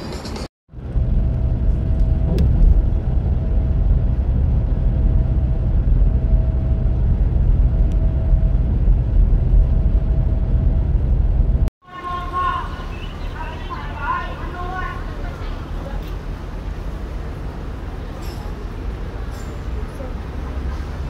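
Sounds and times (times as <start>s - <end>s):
vehicle tyre and engine rumble: 0.0s - 11.7s, 12.7s - 21.0s.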